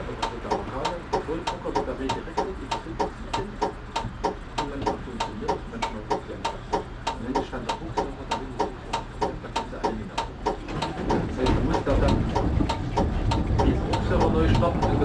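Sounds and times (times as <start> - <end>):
fast sharp ticking with short tone: 0.0 - 15.0
low running rumble: 0.0 - 15.0.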